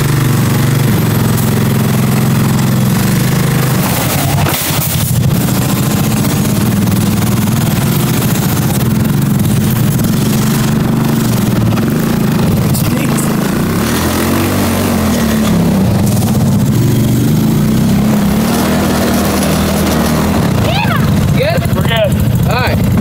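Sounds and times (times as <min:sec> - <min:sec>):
small gasoline engine running: 0:00.0 - 0:23.0.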